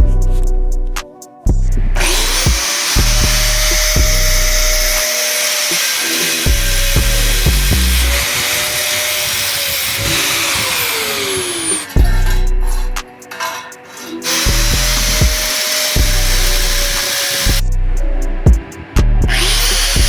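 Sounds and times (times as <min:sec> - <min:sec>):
background music with low beat: 0:00.0 - 0:20.0
angle grinder grinding steel: 0:01.9 - 0:17.6, 0:19.3 - 0:20.0.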